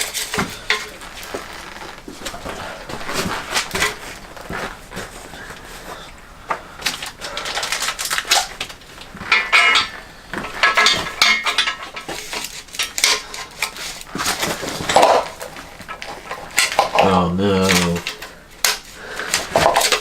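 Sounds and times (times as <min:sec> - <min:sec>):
metal tools clinking and clattering: 0:00.0 - 0:06.0, 0:06.8 - 0:20.0.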